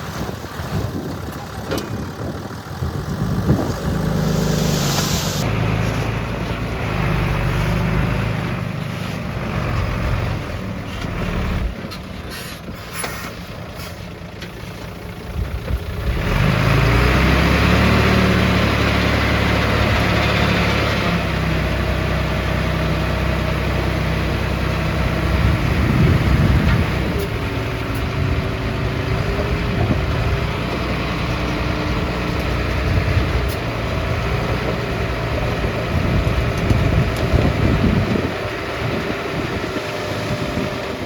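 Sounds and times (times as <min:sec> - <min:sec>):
heavy diesel engines running: 0:00.0 - 0:41.0.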